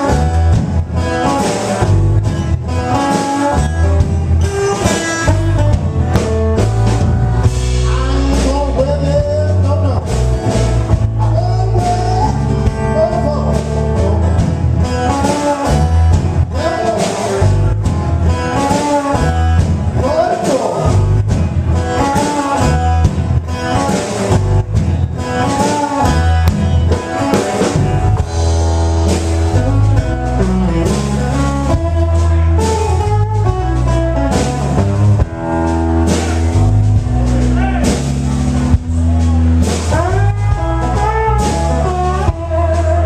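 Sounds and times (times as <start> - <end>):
bass guitar: 0.0 - 43.0
electric guitar bending notes: 0.0 - 43.0
steady drum beat: 0.0 - 43.0.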